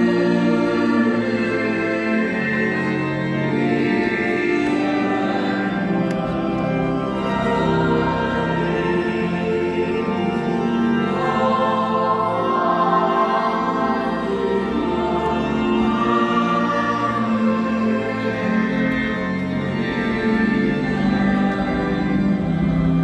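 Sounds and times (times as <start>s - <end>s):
choir singing: 0.0s - 23.0s
church organ chords: 0.0s - 23.0s.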